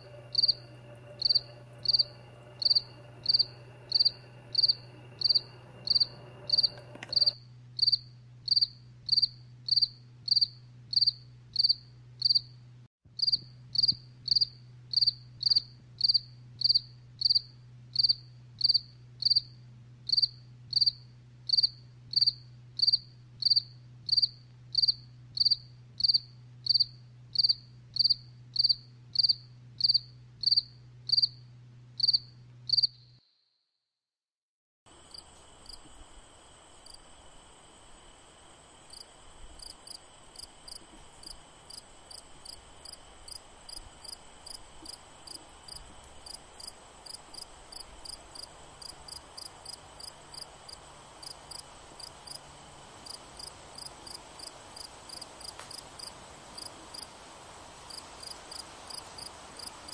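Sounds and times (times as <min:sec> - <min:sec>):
cricket chirping: 0:00.0 - 0:12.6, 0:13.2 - 0:33.5, 0:34.9 - 0:57.1, 0:57.8 - 0:59.9.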